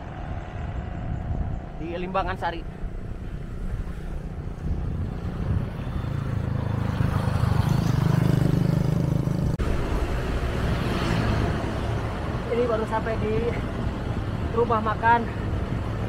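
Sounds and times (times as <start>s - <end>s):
vehicle engine rumble passing: 0.0s - 14.6s
road traffic: 0.0s - 16.0s.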